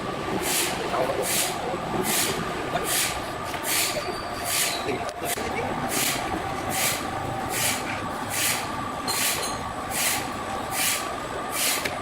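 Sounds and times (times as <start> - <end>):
sawmill machinery humming: 0.0 - 12.0.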